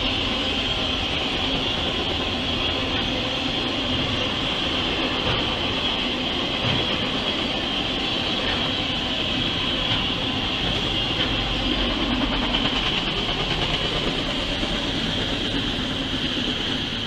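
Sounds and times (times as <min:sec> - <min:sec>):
train cars rumbling on rails: 0:00.0 - 0:17.0.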